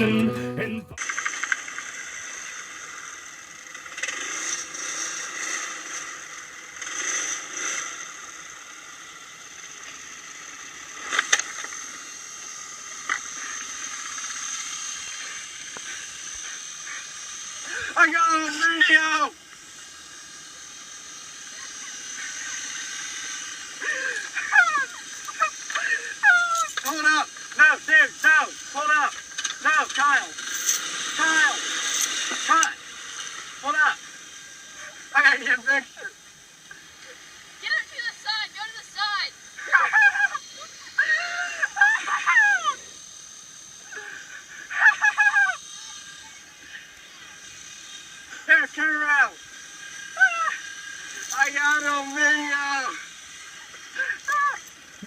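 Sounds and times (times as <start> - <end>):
distant four-wheeler engine: 0.0 - 55.0.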